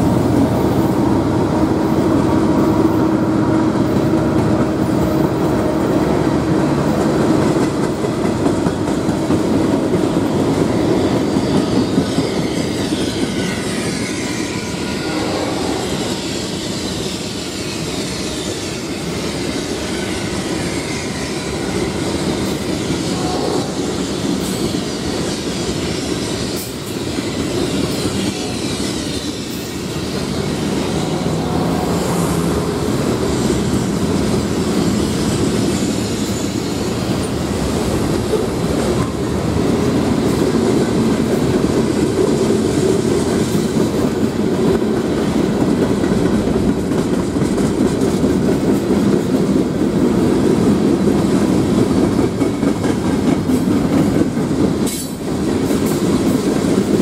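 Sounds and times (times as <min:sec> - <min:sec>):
steel wheels rolling on rails: 0:00.0 - 0:57.0.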